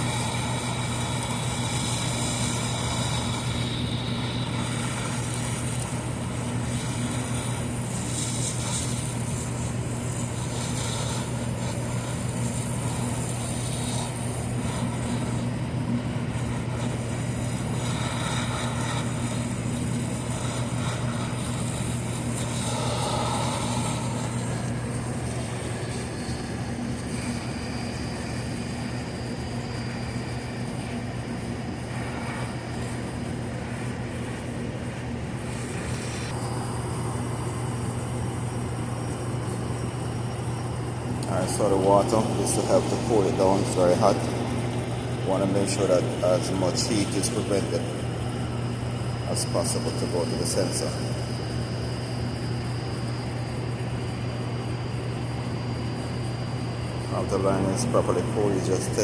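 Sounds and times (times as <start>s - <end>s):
mechanical drone with low hum: 0.0s - 59.0s.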